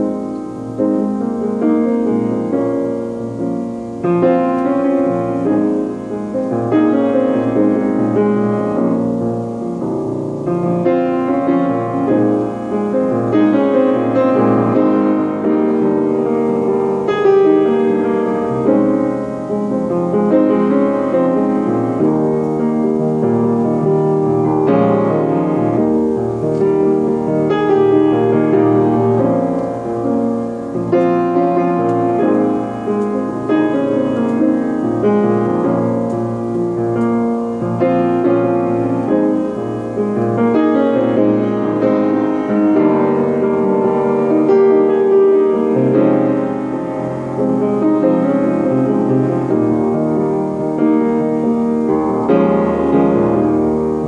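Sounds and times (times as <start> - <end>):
piano ballad: 0.0 - 54.0.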